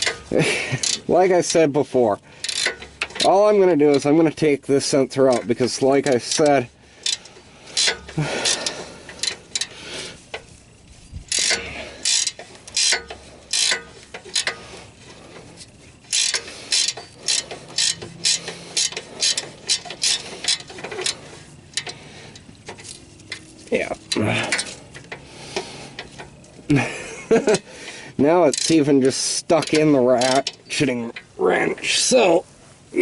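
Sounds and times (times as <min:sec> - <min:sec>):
ratcheting wrench clicking: 0:00.0 - 0:01.1, 0:02.2 - 0:10.6, 0:11.3 - 0:31.3.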